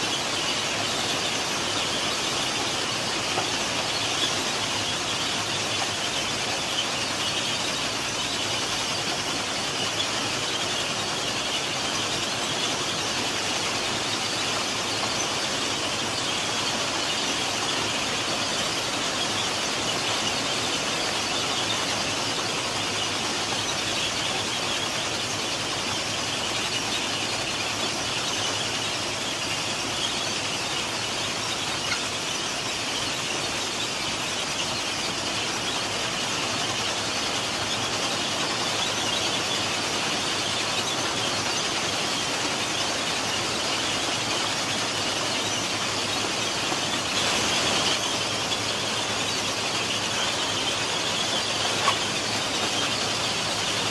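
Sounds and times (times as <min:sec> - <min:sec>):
track machine conveyors din: 0:00.0 - 0:53.9.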